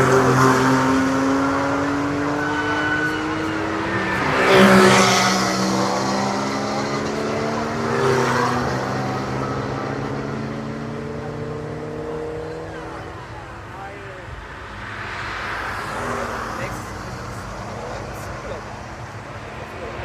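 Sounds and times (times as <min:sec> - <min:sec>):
race cars passing at speed: 0:00.0 - 0:20.0.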